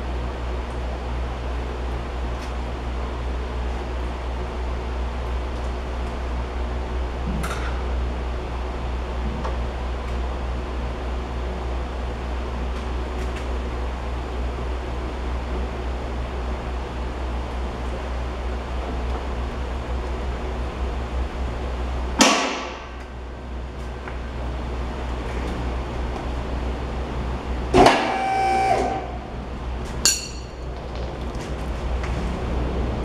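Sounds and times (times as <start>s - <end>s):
low hum and hiss: 0.0s - 33.0s.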